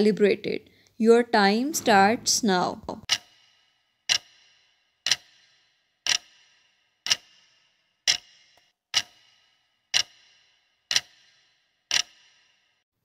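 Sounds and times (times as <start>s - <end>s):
countdown clock ticks: 1.8s - 12.8s.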